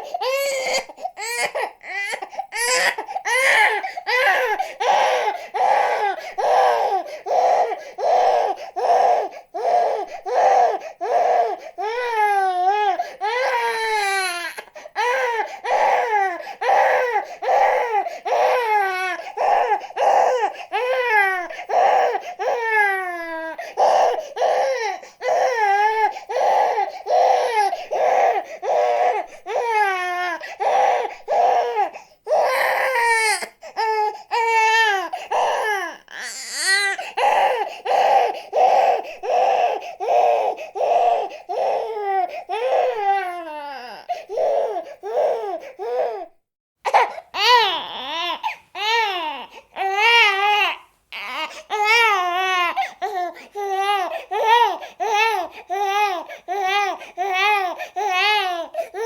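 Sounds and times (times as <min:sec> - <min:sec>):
infant crying: 0:00.0 - 0:59.0.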